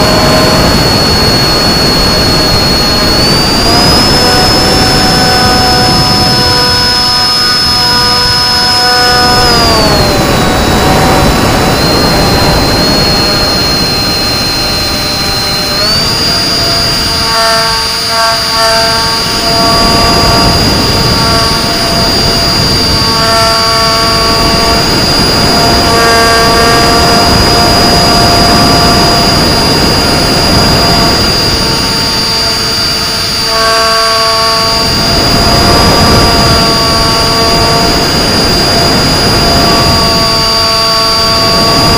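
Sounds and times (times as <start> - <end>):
model aircraft motor and propeller: 0.0 - 41.9
rushing air noise: 0.0 - 41.9.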